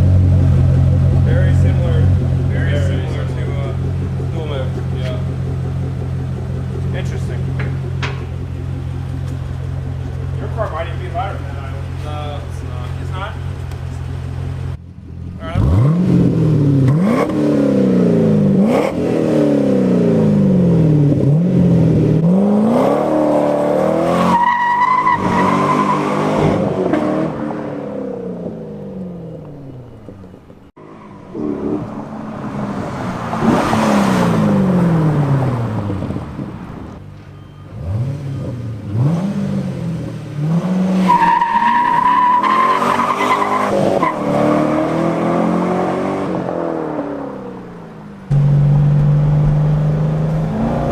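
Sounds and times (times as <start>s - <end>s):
car engine accelerating hard: 0.0s - 37.0s, 37.7s - 50.9s.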